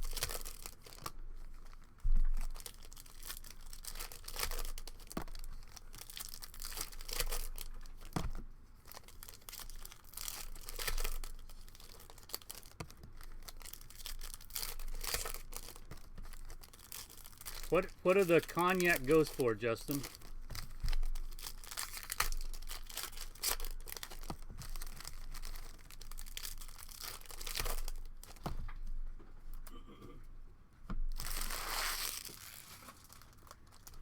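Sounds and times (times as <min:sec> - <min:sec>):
card wrappers tearing and crinkling: 0:00.0 - 0:28.7, 0:31.1 - 0:34.0.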